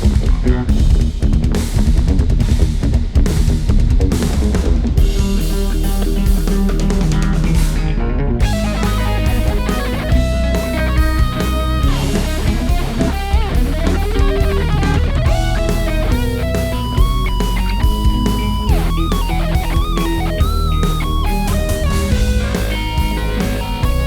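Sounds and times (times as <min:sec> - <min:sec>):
bass guitar: 0:00.0 - 0:24.0
drums: 0:00.0 - 0:24.0
electric guitar with phaser: 0:00.0 - 0:24.0.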